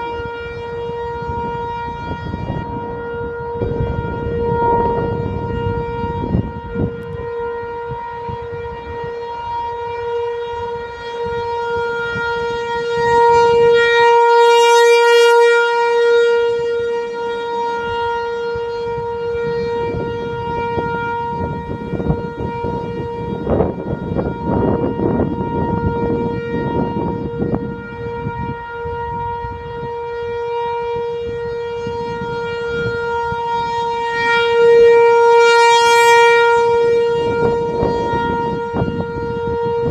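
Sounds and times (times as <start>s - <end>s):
rotating tornado siren: 0.0s - 39.9s.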